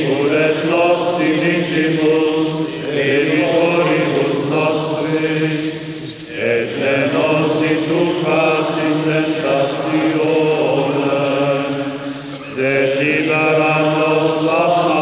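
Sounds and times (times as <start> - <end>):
voices singing chant: 0.0 - 15.0.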